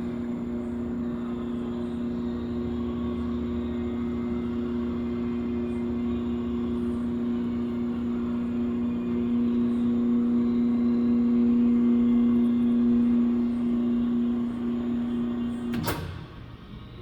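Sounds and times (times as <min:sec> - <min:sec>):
electric motor and gearbox hum: 0:00.0 - 0:17.0.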